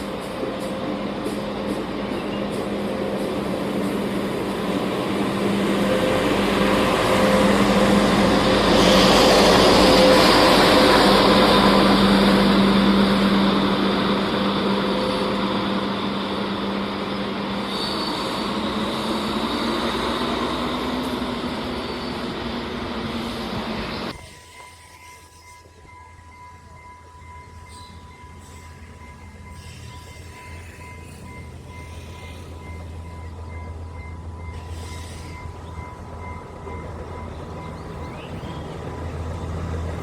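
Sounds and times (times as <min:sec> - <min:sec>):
diesel train engine drone: 0:00.0 - 0:40.0
train wheels rolling: 0:00.0 - 0:40.0.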